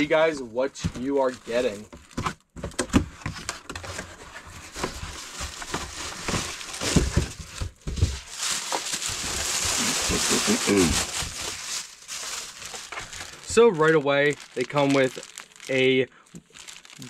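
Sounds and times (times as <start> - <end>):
plastic bag crinkling: 0.1 - 2.4, 4.6 - 17.0.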